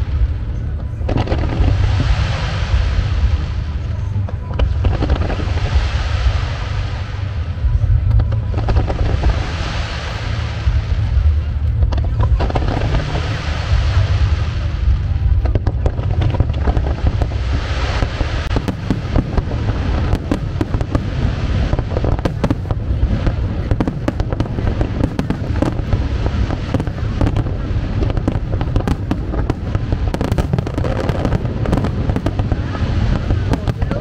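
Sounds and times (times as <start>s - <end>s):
deep low rumble: 0.0s - 34.0s
fireworks bangs and crackling: 0.0s - 34.0s.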